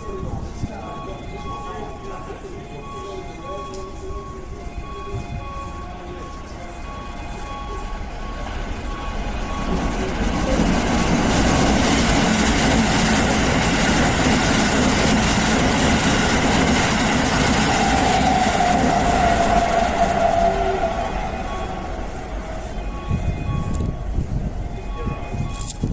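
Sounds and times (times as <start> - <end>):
steady whine: 0.0 - 25.9
train wheels rumbling on rail: 0.0 - 25.9.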